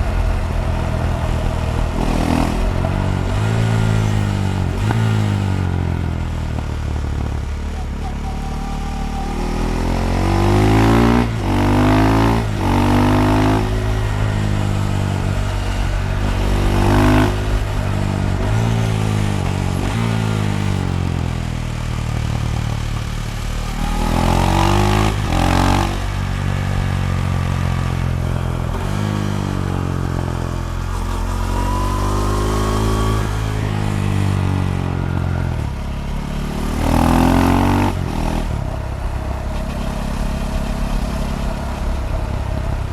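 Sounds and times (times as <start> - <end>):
exhaust pops and crackles: 0.0 - 42.9
motorcycle engine accelerating: 0.0 - 42.9.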